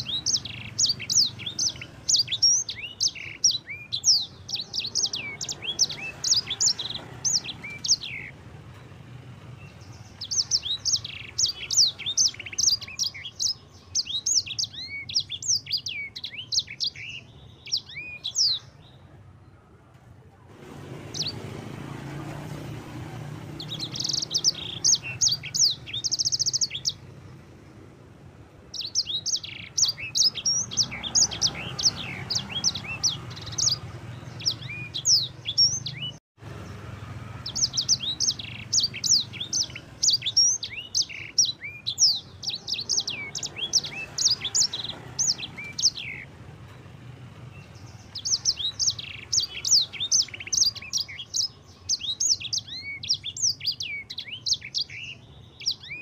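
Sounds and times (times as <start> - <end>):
finch singing twittering song: 0.0 - 19.4, 20.6 - 27.8, 28.6 - 56.0.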